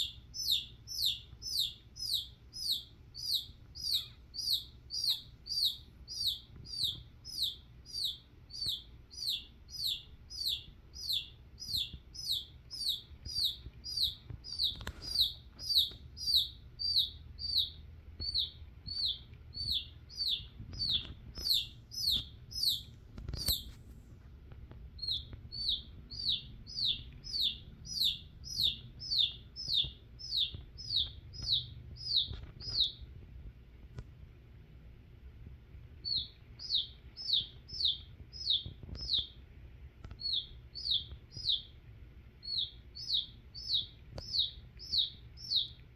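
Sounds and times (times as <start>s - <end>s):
chick peeping: 0.0s - 23.8s, 24.9s - 33.2s, 36.0s - 41.8s, 42.4s - 45.9s.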